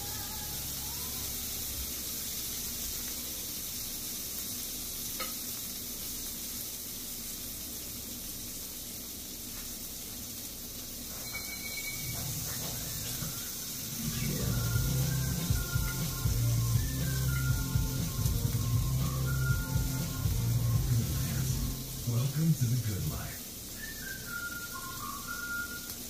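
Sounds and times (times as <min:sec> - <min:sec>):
food sizzling on a grill: 0:00.0 - 0:26.0.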